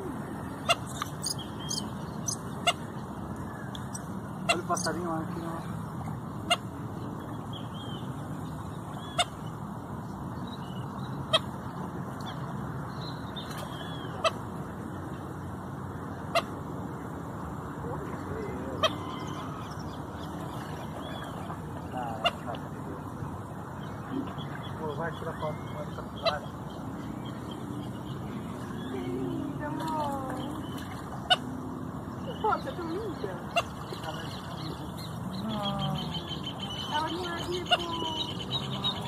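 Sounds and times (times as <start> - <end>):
steady pond hiss: 0.0 - 39.0.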